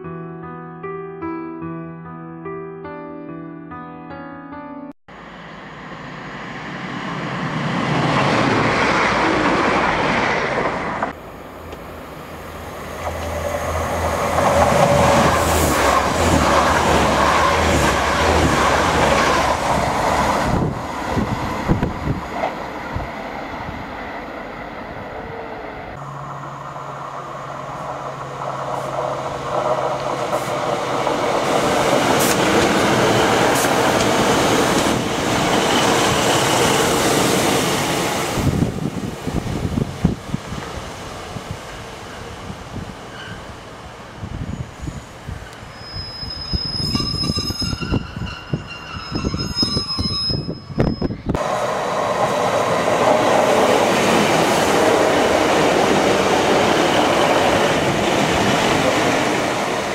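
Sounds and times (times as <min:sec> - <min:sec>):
train wheels rumbling on rails: 0:06.0 - 0:24.4, 0:25.9 - 0:59.9.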